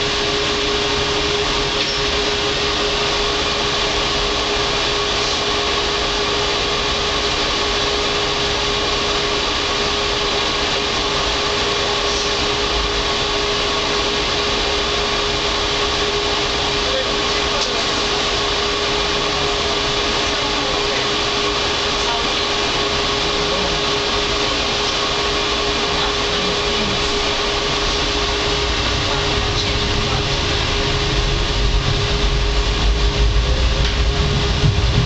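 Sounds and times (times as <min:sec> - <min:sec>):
constant hum tone: 0:00.0 - 0:35.0
low rumble from rails: 0:00.0 - 0:35.0
tram hiss: 0:00.0 - 0:35.0.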